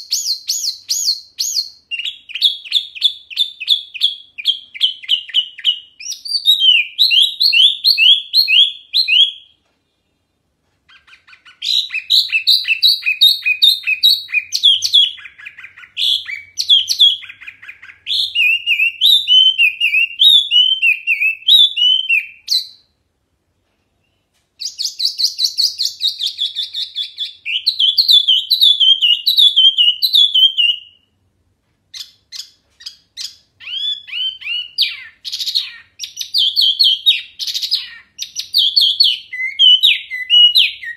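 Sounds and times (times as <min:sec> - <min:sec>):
songbird whistling: 0:00.0 - 0:09.6, 0:10.9 - 0:22.9, 0:24.0 - 0:31.2, 0:31.9 - 0:40.9.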